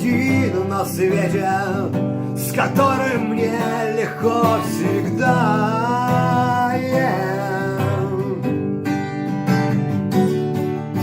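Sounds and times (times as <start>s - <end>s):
person singing: 0.0s - 8.9s
acoustic guitar strumming: 0.0s - 11.0s.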